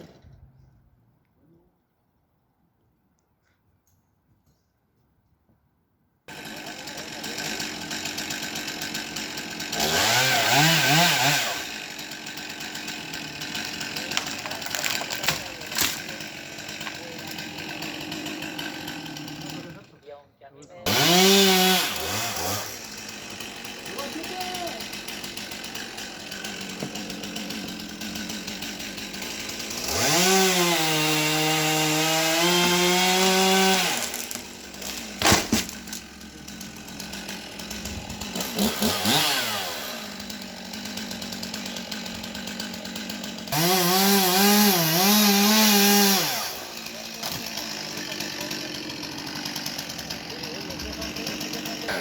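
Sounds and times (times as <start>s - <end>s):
chainsaw idling and revving: 6.3s - 20.2s, 20.8s - 52.0s.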